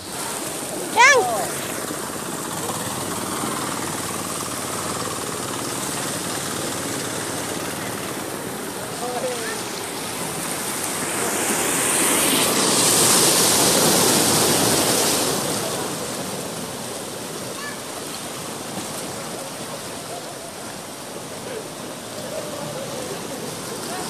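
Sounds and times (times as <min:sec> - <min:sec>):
ocean waves breaking on beach: 0:00.0 - 0:24.0.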